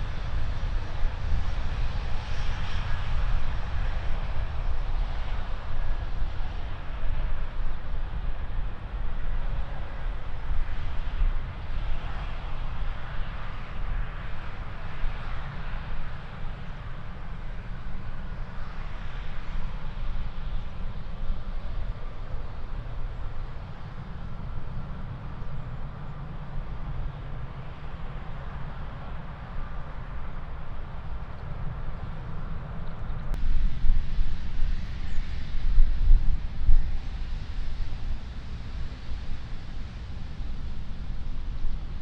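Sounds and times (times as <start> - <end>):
jet engine rumble and hiss: 0.0 - 42.0.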